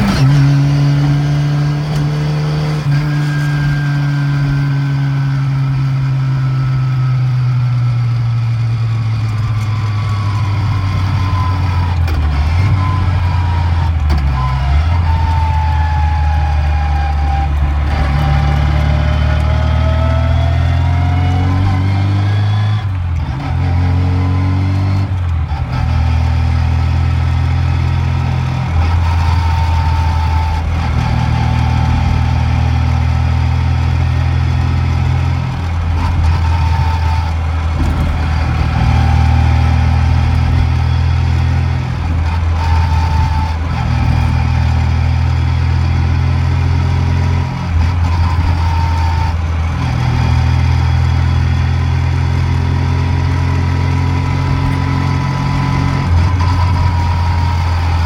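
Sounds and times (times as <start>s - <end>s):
car engine pulling: 0.0s - 58.0s
gearbox whine: 0.0s - 58.0s.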